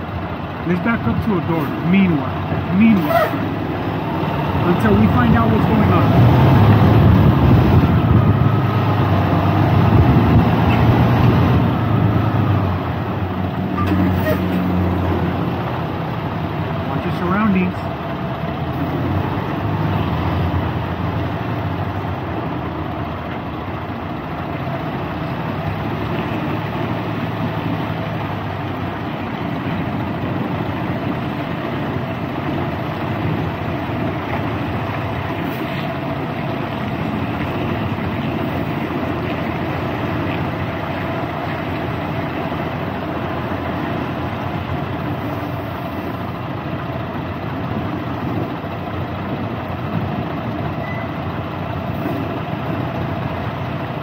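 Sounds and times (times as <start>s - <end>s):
diesel truck engine rumbling: 0.0s - 54.0s.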